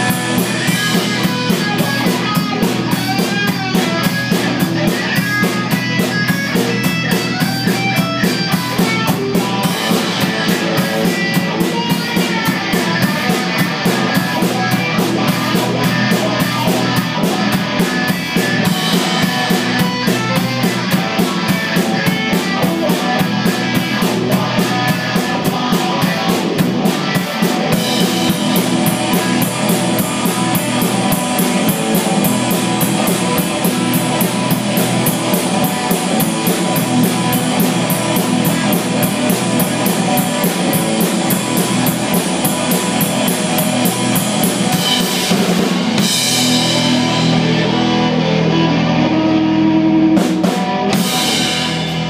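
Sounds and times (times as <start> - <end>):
distorted electric guitar: 0.0 - 52.0
drum kit with cymbals: 0.0 - 52.0
electric bass: 0.0 - 52.0.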